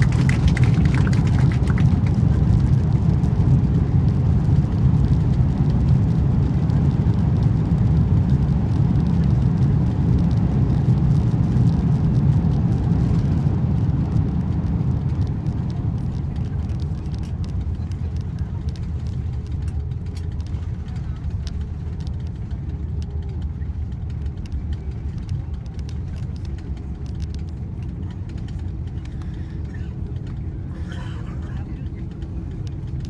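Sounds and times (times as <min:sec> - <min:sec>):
airplane rolling on runway: 0:00.0 - 0:33.0.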